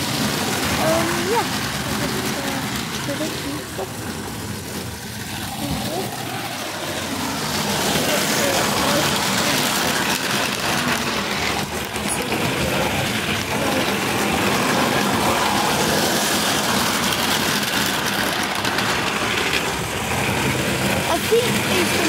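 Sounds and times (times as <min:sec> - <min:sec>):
model train motor whirr: 0:00.0 - 0:22.0
wheels rumbling on rails: 0:00.0 - 0:22.0.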